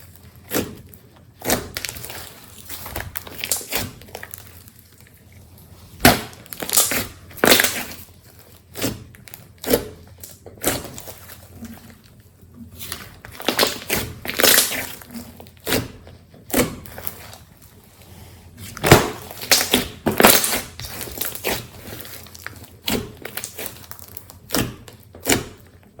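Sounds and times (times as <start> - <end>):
slime squishing and popping: 0.0 - 5.2, 6.0 - 17.6, 18.6 - 25.8.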